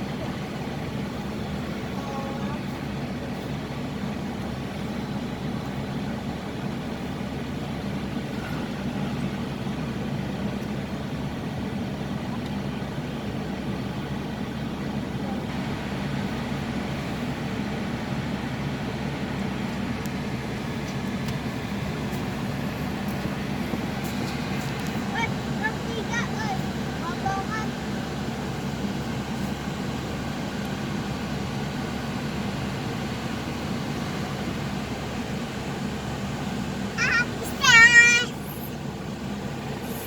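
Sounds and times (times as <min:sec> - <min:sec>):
low engine hum: 0:00.0 - 0:40.0
road traffic noise: 0:00.0 - 0:40.0.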